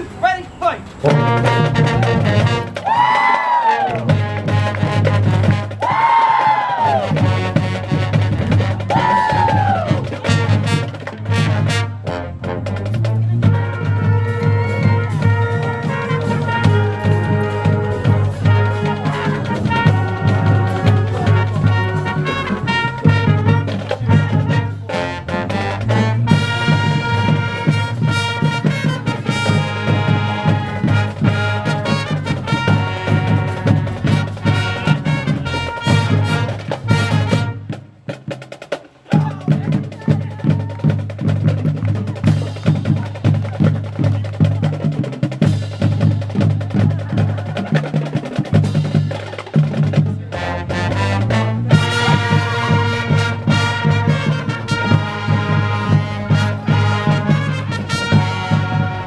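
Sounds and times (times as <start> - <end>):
drumline beat: 0.0 - 59.0
marching band brass: 0.0 - 59.0.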